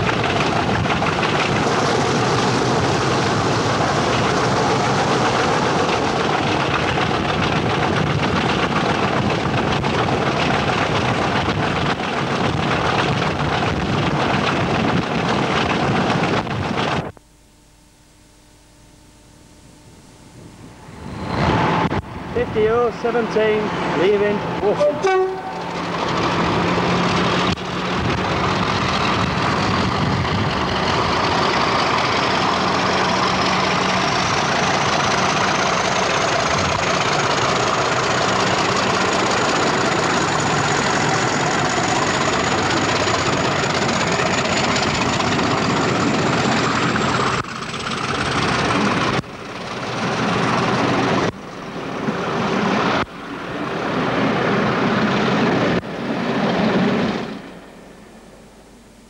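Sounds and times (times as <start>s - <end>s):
diesel locomotive passing: 0.0s - 17.0s, 20.6s - 59.0s
high engine whine: 0.0s - 59.0s.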